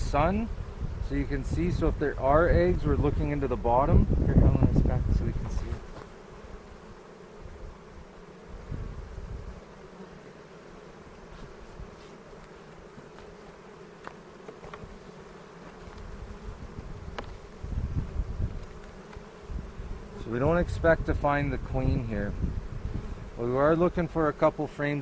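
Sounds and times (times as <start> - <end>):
bees humming: 0.0 - 25.0.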